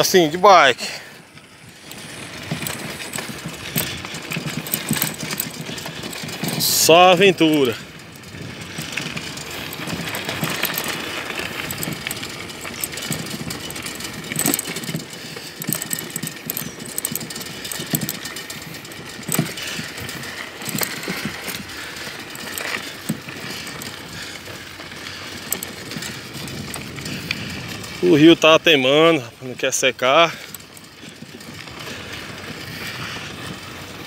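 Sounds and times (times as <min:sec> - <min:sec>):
bicycle rattling over bumps: 0:00.0 - 0:34.0
bicycle tyres on gravel: 0:00.0 - 0:34.0.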